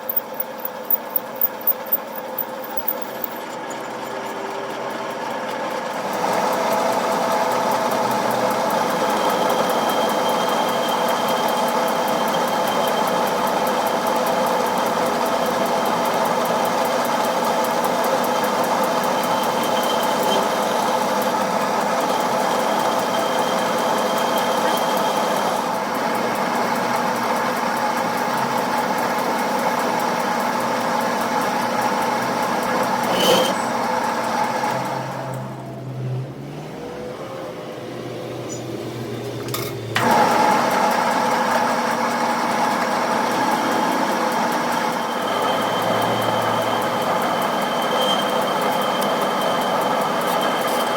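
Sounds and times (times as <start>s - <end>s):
workshop machine humming: 0.0s - 50.9s.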